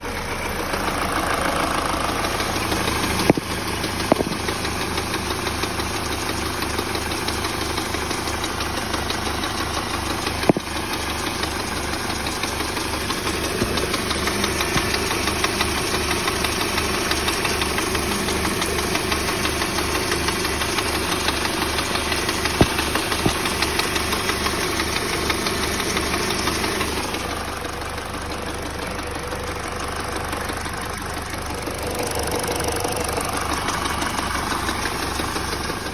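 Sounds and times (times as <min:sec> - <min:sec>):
car engine running: 0:00.0 - 0:35.9
regular knocking from engine: 0:00.0 - 0:35.9.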